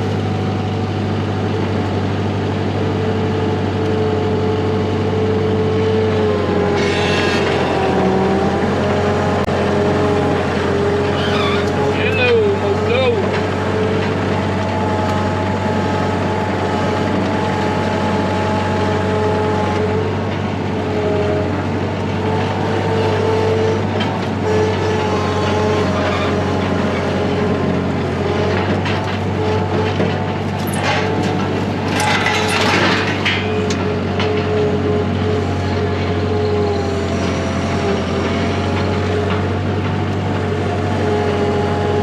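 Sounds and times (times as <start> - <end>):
steady mechanical drone: 0.0 - 42.0.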